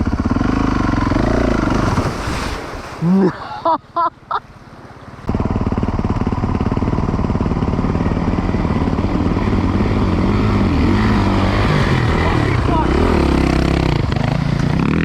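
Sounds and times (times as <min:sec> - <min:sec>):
dirt bike engine revving: 0:00.0 - 0:02.4, 0:05.3 - 0:15.0.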